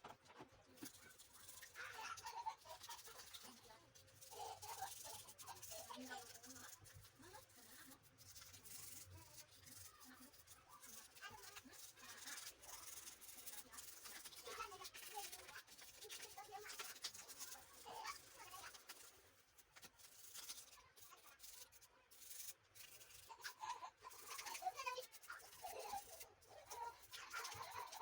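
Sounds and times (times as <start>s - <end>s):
toothbrush scrubbing plastic: 0.0s - 28.0s.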